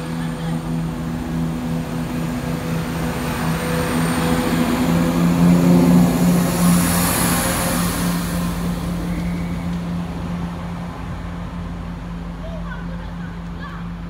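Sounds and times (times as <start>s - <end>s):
diesel train engines humming: 0.0s - 14.0s.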